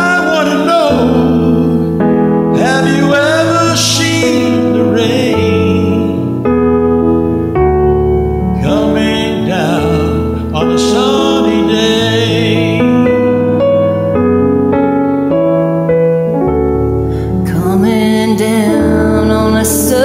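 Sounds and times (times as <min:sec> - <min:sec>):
piano backing track: 0:00.0 - 0:20.0.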